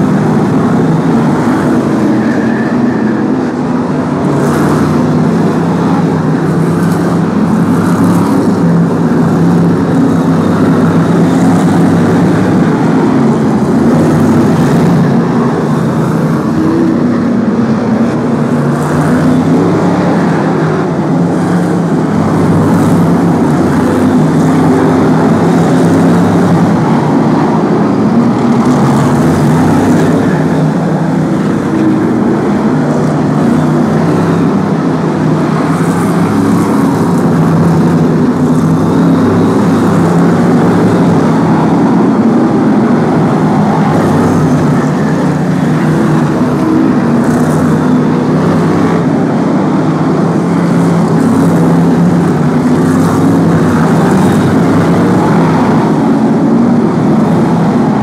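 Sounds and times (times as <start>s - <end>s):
racing car engines droning: 0.0s - 58.0s.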